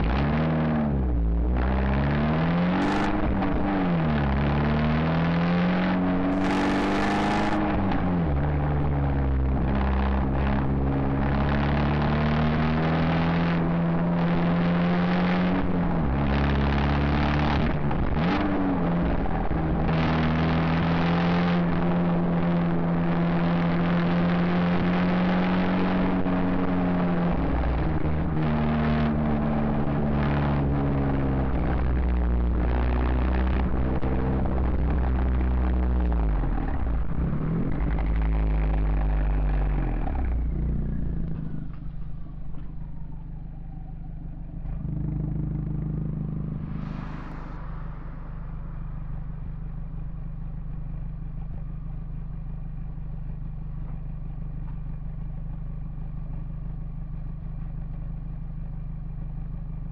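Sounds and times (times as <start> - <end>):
car engine and exhaust revving: 0.0 - 59.9.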